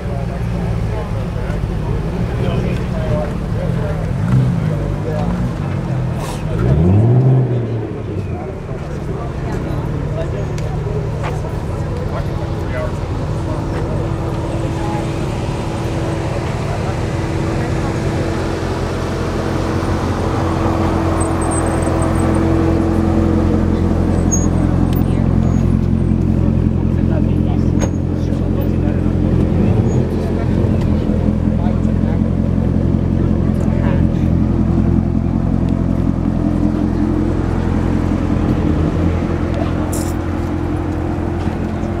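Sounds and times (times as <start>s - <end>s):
car engine burbling at low revs: 0.0s - 42.0s.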